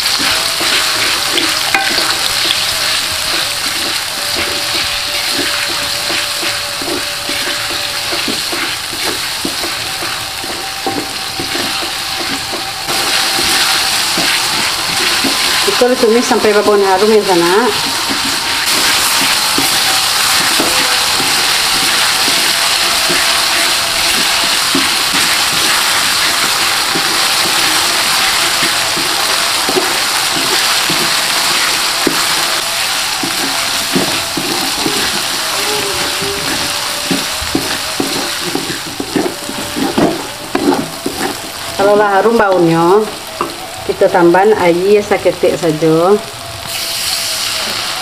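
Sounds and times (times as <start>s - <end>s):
wooden spatula scraping wok: 0.0s - 44.1s
paste sizzling in hot oil: 0.0s - 45.6s, 46.4s - 48.0s.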